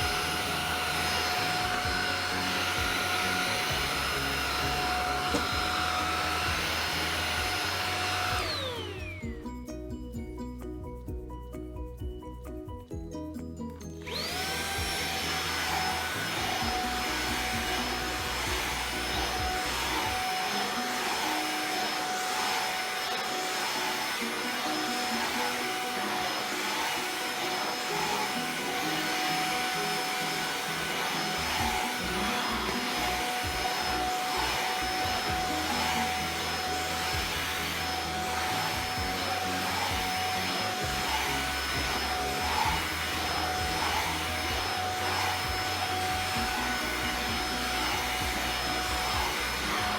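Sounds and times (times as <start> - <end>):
stick vacuum motor whine: 0.0 - 9.5, 14.0 - 49.9.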